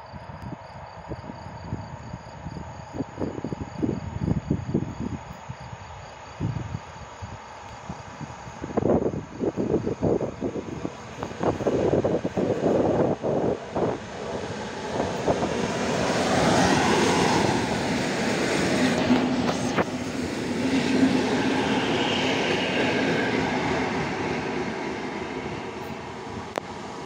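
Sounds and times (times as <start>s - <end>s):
train rumbling with low hum: 0.0s - 27.0s.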